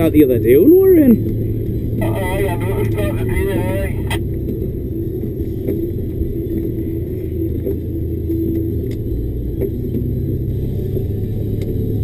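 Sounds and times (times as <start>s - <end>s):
diesel lorry engine rumbling: 0.0s - 12.0s.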